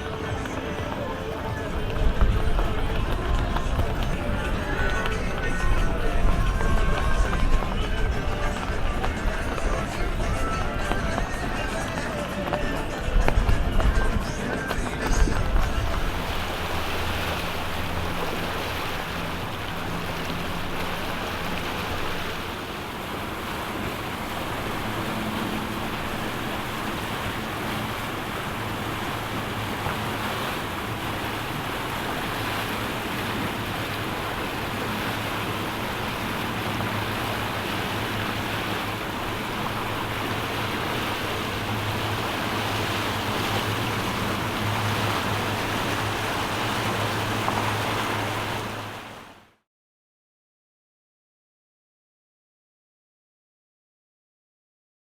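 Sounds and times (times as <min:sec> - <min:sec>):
water rushing: 0:00.0 - 0:49.5
boat engines droning: 0:00.0 - 0:49.6
wind: 0:00.0 - 0:49.6.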